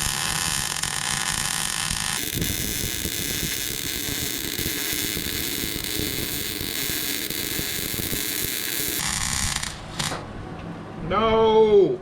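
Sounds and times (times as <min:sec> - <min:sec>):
welder arc crackling: 0:00.0 - 0:10.1.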